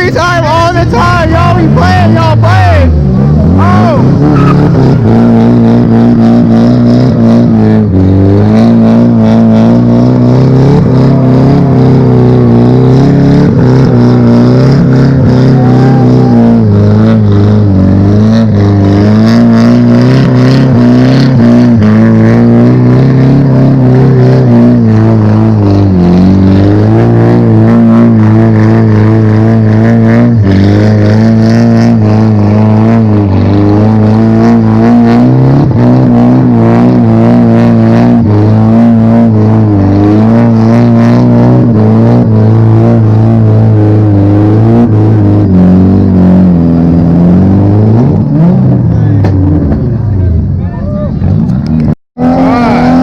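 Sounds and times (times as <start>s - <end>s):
car engine revving hard: 0.0s - 50.2s, 51.2s - 53.0s.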